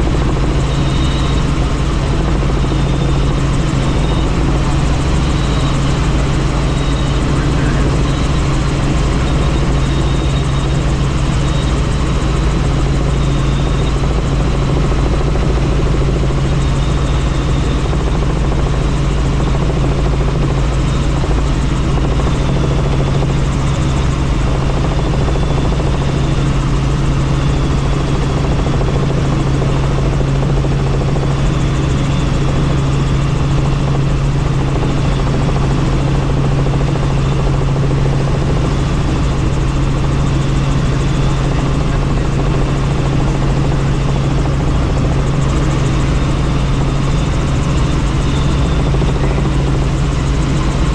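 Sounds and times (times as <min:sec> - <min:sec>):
helicopter rotor and engine drone: 0:00.0 - 0:50.9.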